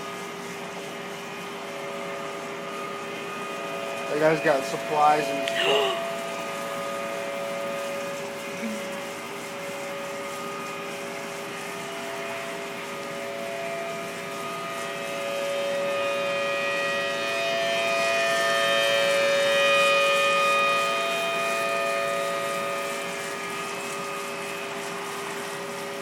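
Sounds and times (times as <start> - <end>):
warning sirens wailing: 0.8 - 25.9.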